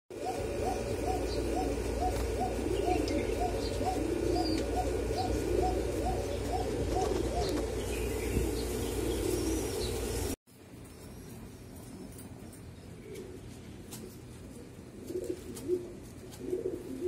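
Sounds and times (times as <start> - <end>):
pigeons cooing: 0.1 - 10.4, 13.0 - 17.0.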